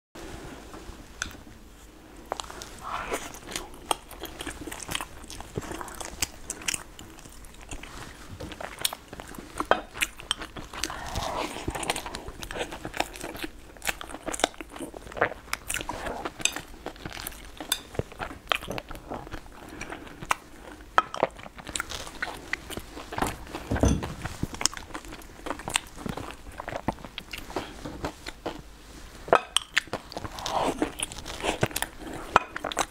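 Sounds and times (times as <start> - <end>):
person chewing dough balls: 1.2 - 32.9.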